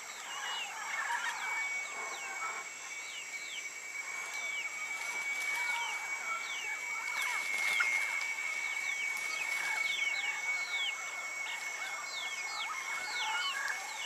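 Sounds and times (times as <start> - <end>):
steady high-pitched whine: 0.0 - 14.0.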